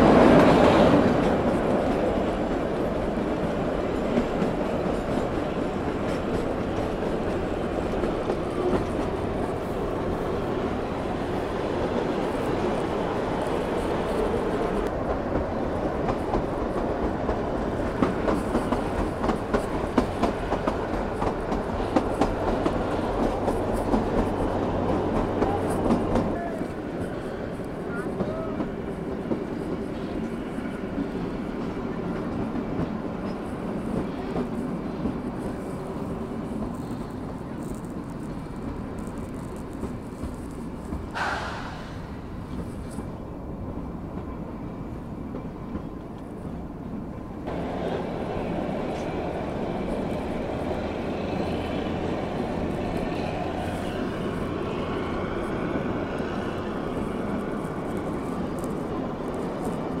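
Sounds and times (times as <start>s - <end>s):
train wheels rumbling and rattling: 0.0s - 60.0s.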